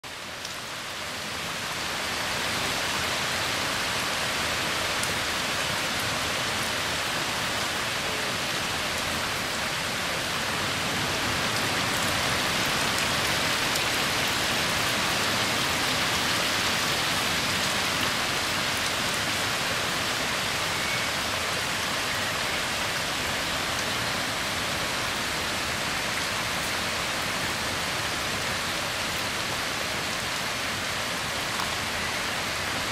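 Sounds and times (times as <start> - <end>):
heavy rain pouring: 0.0 - 32.9.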